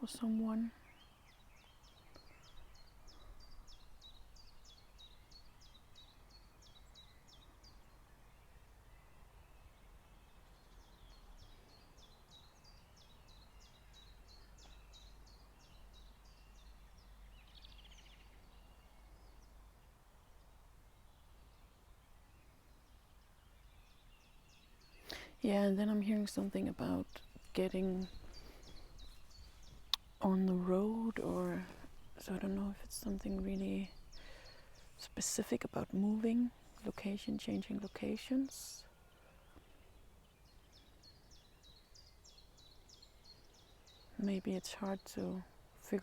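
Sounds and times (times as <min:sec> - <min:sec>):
bird chirping: 0:00.0 - 0:46.0.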